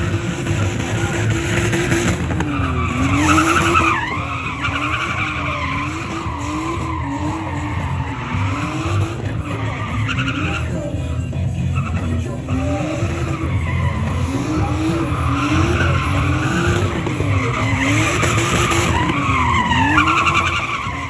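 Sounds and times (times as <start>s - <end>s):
car engine at high revs: 0.0s - 21.0s
tyres squealing: 0.0s - 21.0s.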